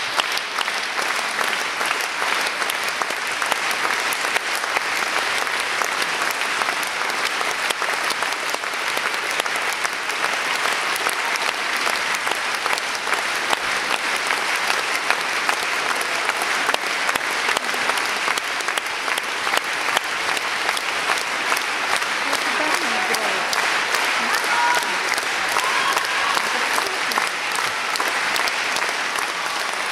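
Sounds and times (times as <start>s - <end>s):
audience applauding: 0.0s - 29.9s.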